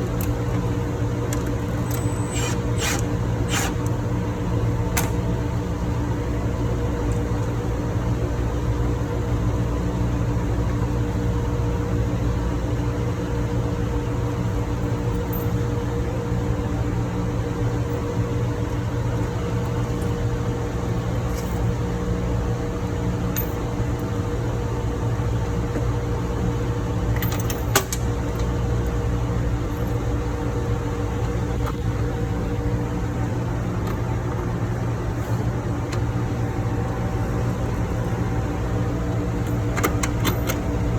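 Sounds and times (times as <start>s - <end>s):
engine-room machinery drone: 0.0s - 40.9s.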